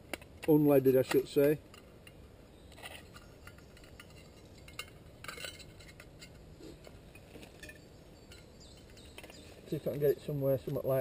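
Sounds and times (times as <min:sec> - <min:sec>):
small metal clinks and rattles: 0:00.2 - 0:09.9.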